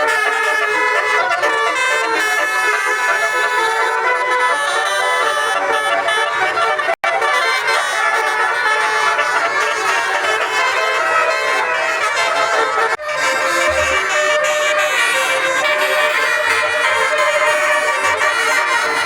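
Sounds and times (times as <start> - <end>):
musical air horns playing melodies: 0.0 - 19.0.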